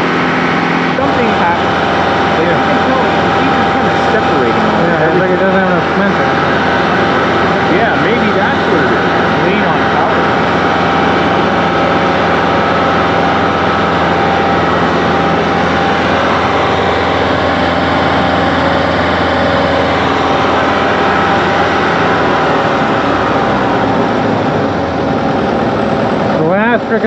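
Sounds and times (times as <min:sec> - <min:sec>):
pump engine loud drone: 0:00.0 - 0:27.0.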